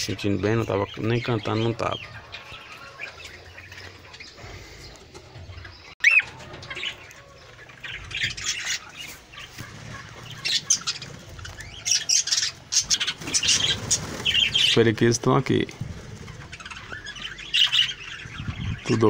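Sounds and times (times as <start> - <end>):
budgerigars chattering and squawking: 0.0 - 19.0.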